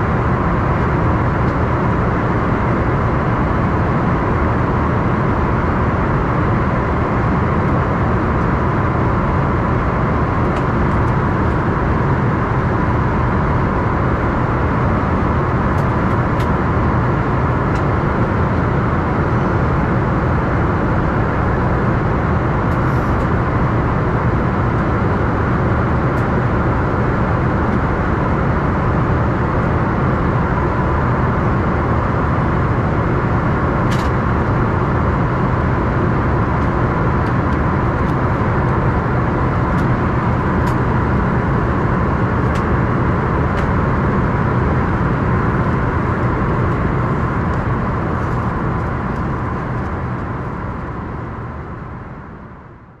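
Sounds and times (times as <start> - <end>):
airplane cabin roar: 0.0 - 53.0.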